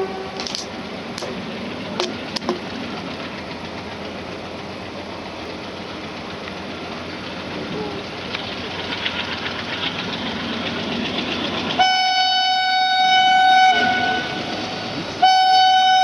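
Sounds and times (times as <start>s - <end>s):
locomotive diesel engine chugging: 0.0s - 16.0s.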